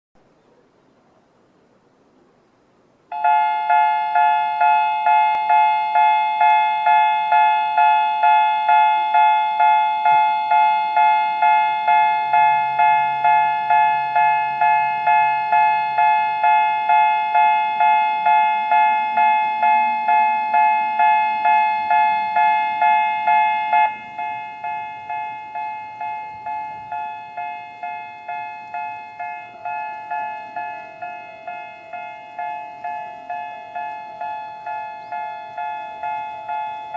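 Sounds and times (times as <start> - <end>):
level crossing electronic bell: 3.1 - 36.9.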